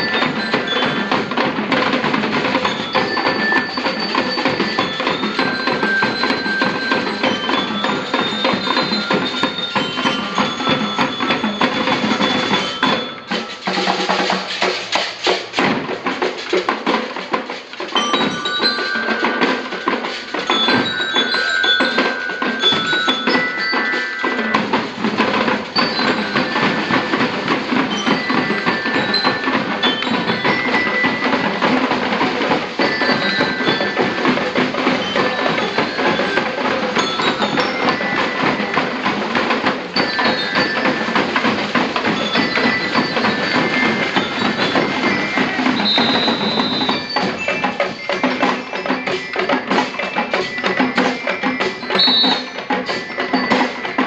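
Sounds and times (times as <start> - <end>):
bell lyre melody: 0.0 - 14.6, 17.9 - 54.0
snare and bass drums: 0.0 - 54.0.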